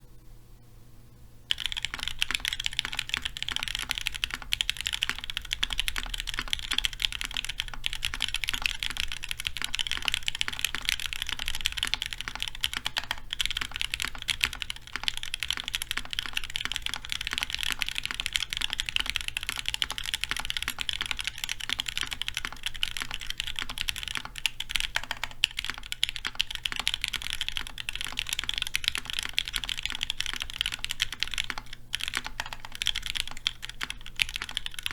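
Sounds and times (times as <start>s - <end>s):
fast mechanical keyboard typing: 1.5s - 34.9s.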